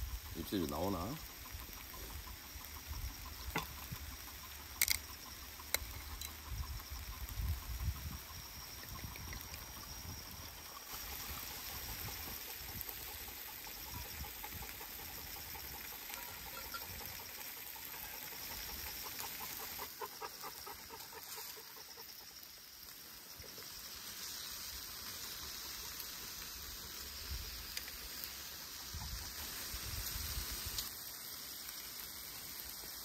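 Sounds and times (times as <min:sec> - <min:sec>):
faint chirps: 0:00.0 - 0:33.0
steady outdoor hiss: 0:00.0 - 0:33.0.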